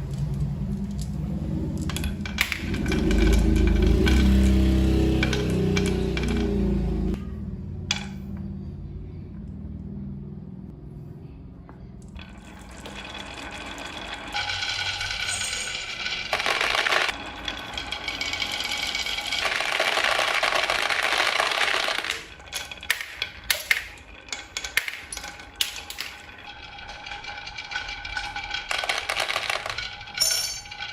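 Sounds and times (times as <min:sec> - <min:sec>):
sharp clicks and clinks: 0:00.0 - 0:06.8, 0:12.0 - 0:30.9.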